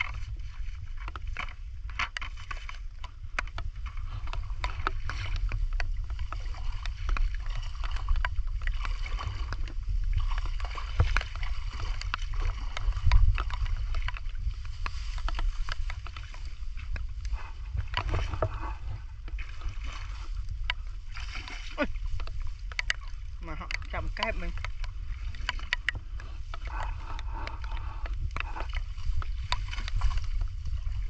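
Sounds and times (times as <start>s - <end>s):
steady low rumble: 0.0s - 31.0s
water sloshing and splashing: 0.0s - 31.0s
small clicks and pops: 1.0s - 18.6s, 22.1s - 30.5s.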